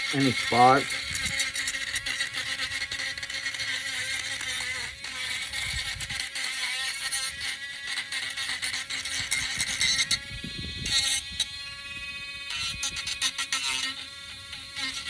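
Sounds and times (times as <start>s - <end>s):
electric sander grinding: 0.0s - 15.0s.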